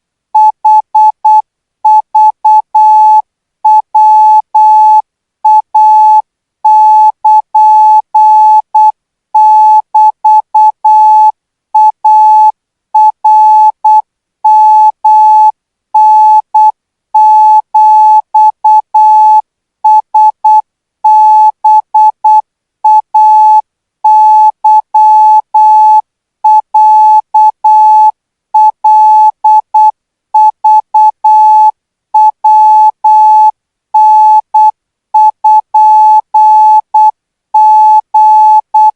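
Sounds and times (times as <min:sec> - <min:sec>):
morse code beeps: 0:00.4 - 0:38.9.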